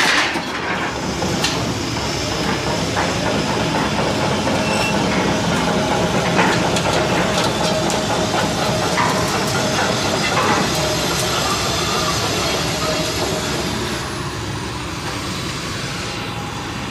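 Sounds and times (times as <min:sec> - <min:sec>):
excavator diesel engine under load: 0:00.0 - 0:16.9.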